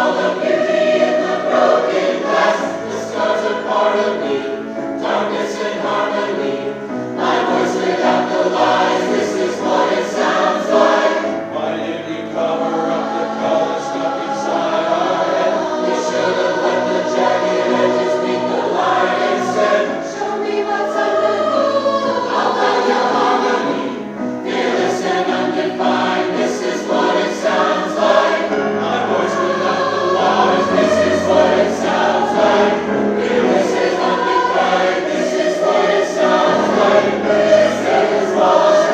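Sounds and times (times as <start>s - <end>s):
choir singing: 0.0s - 38.9s
instrumental accompaniment: 0.0s - 38.9s.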